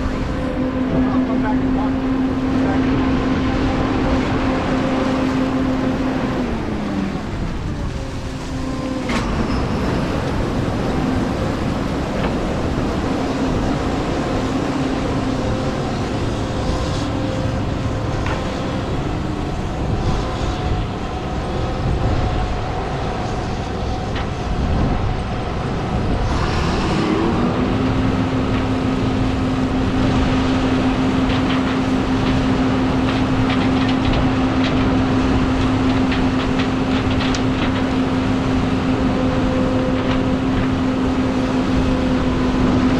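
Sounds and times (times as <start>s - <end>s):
combine harvester droning: 0.0s - 42.9s.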